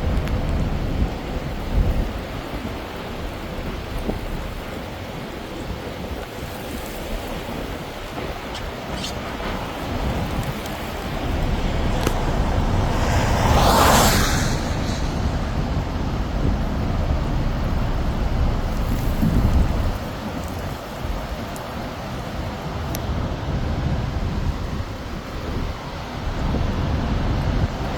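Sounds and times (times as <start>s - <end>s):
strong storm wind rumbling: 0.0s - 27.9s.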